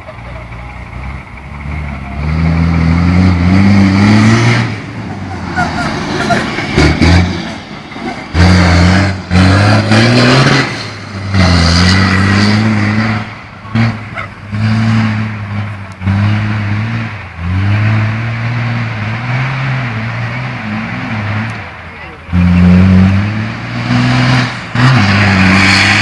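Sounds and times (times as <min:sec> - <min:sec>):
diesel truck engine revving: 0:00.0 - 0:26.0.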